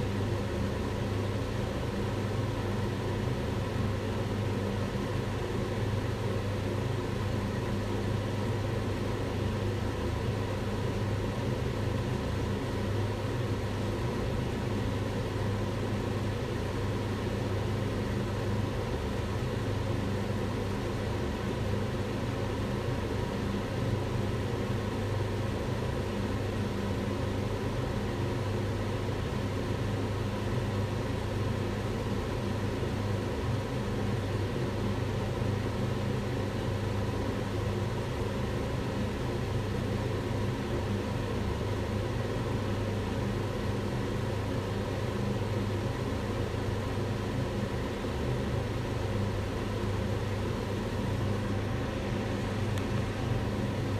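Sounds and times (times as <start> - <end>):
extractor fan running: 0.0 - 53.9.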